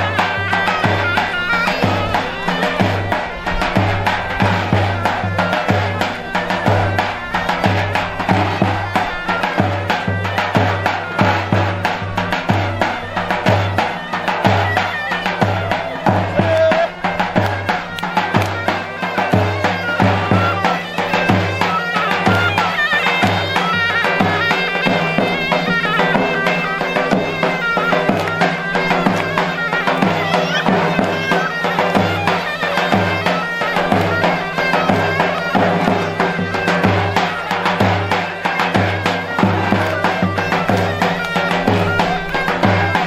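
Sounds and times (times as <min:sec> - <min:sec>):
low drum beat: 0:00.0 - 0:43.0
shrill reed wind instrument melody: 0:00.0 - 0:43.0.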